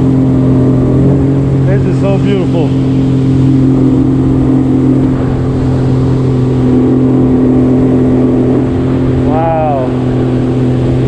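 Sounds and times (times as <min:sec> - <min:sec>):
jet ski engine droning: 0:00.0 - 0:11.0.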